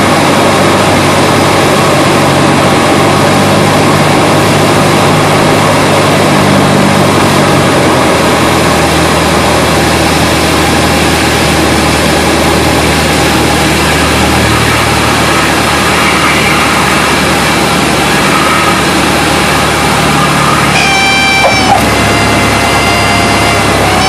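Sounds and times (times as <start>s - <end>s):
airplane engine drone: 0.0s - 24.0s.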